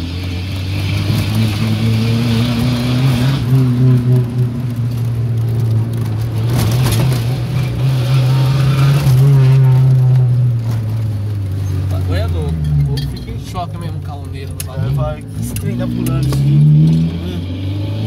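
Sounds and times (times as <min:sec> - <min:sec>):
car engine through open exhaust: 0:00.0 - 0:18.0.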